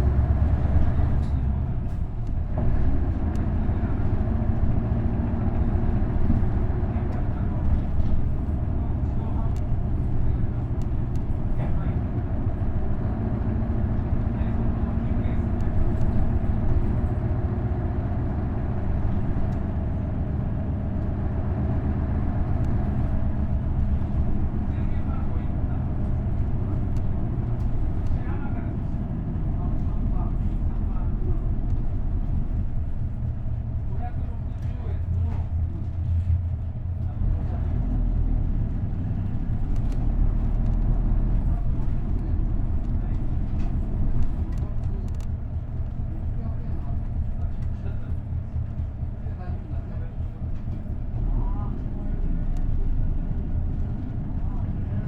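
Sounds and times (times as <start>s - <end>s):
bus diesel engine drone: 0.0s - 55.0s.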